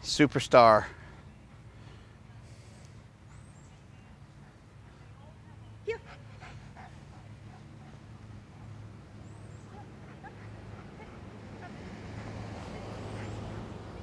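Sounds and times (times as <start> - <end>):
steady low hum with hiss: 0.0 - 14.0.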